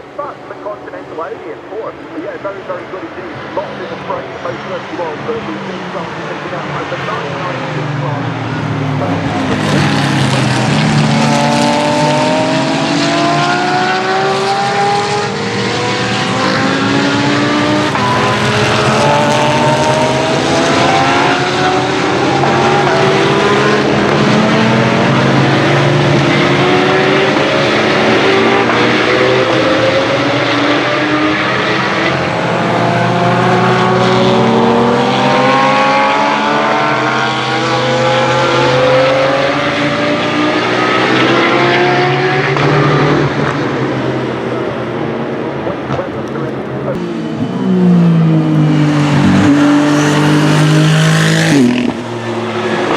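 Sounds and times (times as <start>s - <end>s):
racing car engines accelerating: 0.0s - 52.9s.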